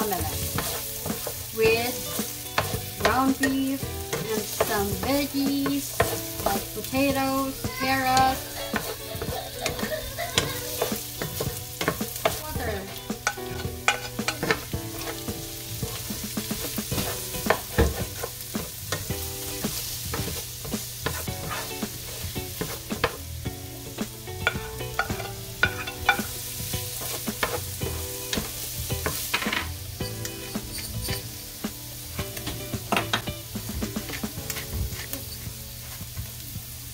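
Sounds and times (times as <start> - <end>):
wooden spatula scraping pan: 0.0 - 23.2, 24.4 - 31.5, 32.4 - 36.1
frying sizzle: 0.0 - 36.9.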